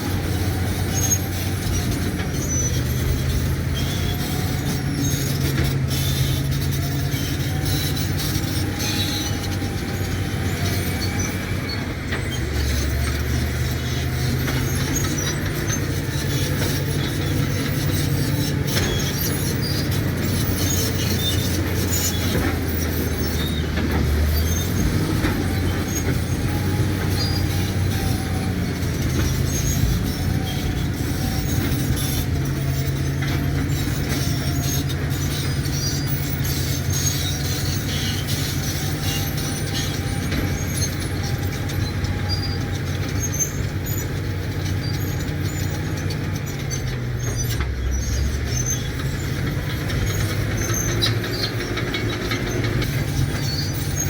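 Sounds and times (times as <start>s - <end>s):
bulldozer diesel engine: 0.0s - 54.0s
steel tracks clanking and squealing: 0.0s - 54.0s.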